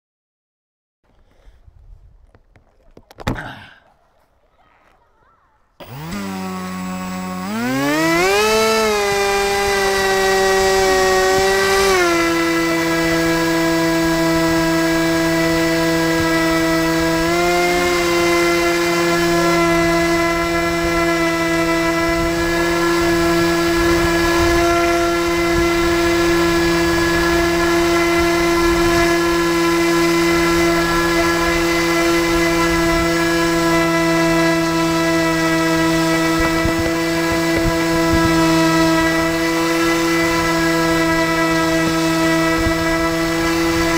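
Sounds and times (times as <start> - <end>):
electric motor and propeller whine: 5.7 - 43.9.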